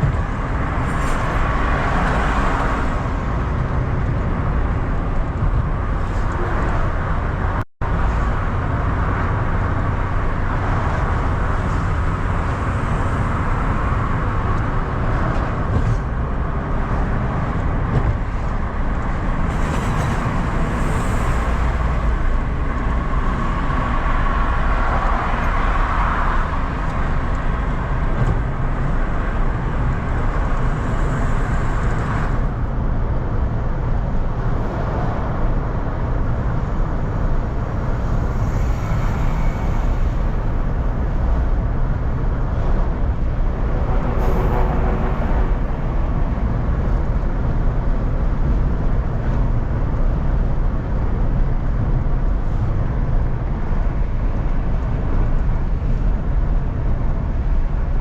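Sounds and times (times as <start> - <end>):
car engine rumble: 0.0 - 58.0.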